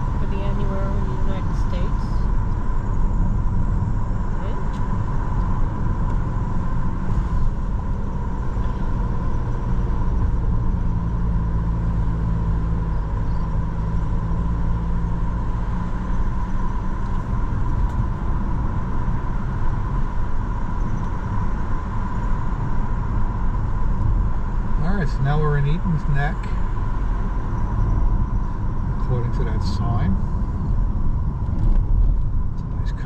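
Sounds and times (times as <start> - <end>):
car cabin road rumble: 0.0 - 33.0.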